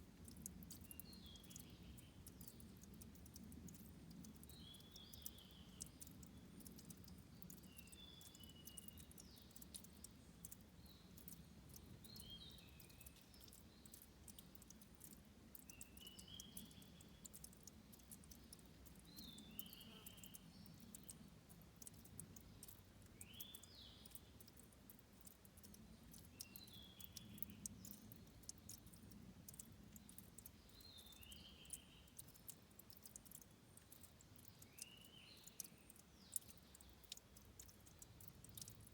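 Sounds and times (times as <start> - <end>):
stream trickling: 0.0 - 38.9
ticking drips: 0.0 - 38.9.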